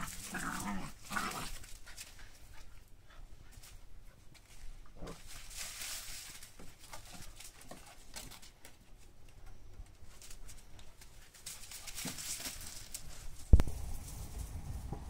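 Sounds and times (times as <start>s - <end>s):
puppy paws scrabbling in sand: 0.0s - 9.3s, 9.9s - 15.0s.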